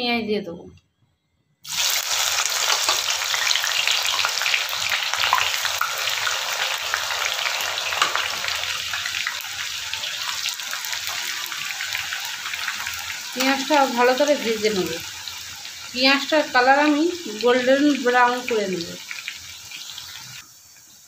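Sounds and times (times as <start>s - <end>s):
onions sizzling in hot oil: 1.6s - 21.0s.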